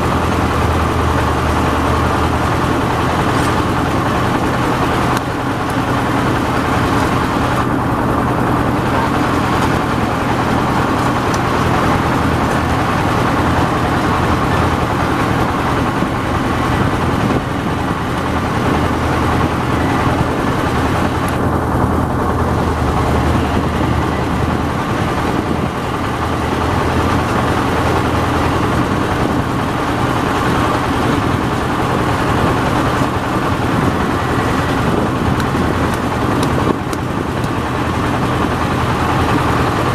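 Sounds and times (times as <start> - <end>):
combine harvester engine drone: 0.0 - 39.9
threshing machinery rushing: 0.0 - 39.9.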